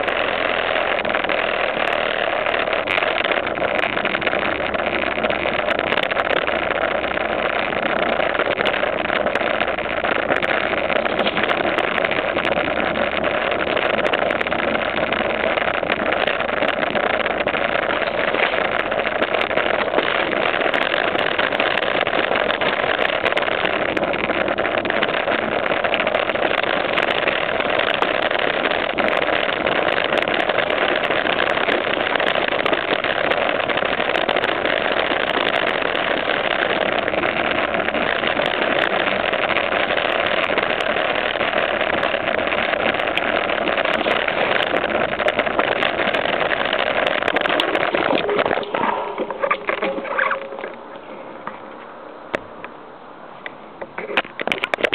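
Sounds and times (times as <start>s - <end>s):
bike wheels rolling on concrete: 0.0s - 54.9s.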